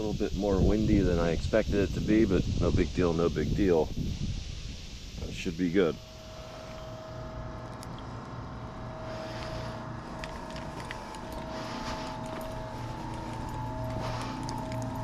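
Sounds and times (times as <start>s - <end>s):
high-pitched whine: 0.0s - 15.0s
machinery hum and drone: 0.0s - 15.0s.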